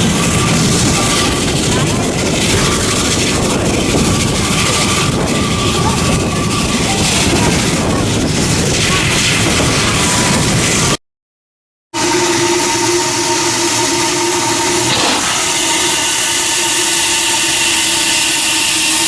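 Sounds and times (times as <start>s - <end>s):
train rumbling along the line: 0.0s - 11.0s, 12.0s - 19.0s.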